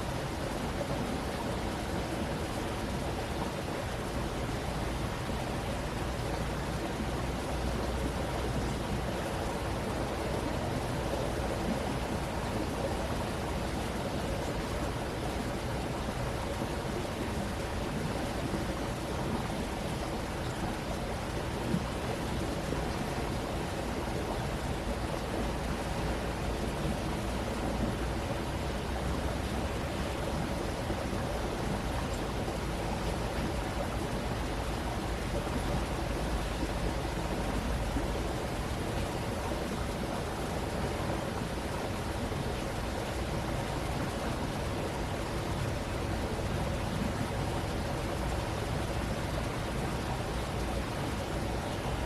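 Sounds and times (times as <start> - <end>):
stream rushing: 0.0 - 52.0.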